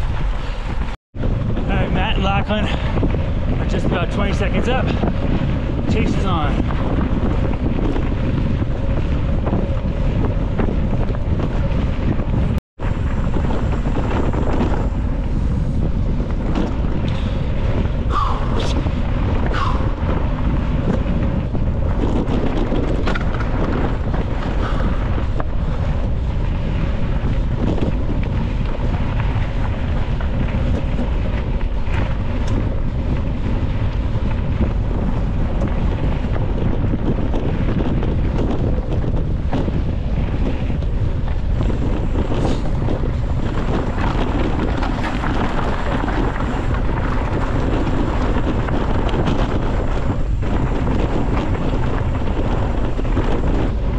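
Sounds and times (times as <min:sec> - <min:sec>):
bike tyres rumbling over dirt: 0:00.0 - 0:53.9
wind buffeting microphone: 0:00.0 - 0:53.9.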